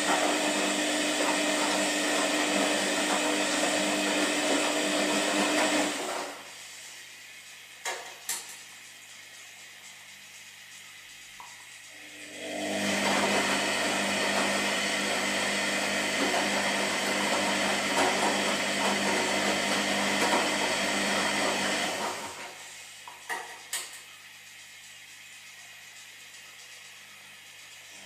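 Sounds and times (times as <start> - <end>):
washing machine running: 0.0 - 28.0.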